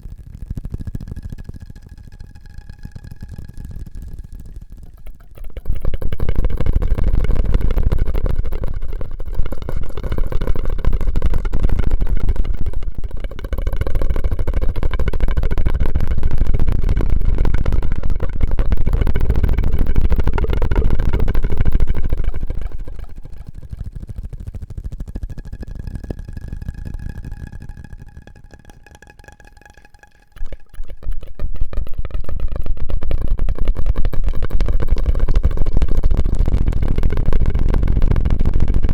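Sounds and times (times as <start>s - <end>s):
mouth and straw crackling: 1.2s - 36.9s.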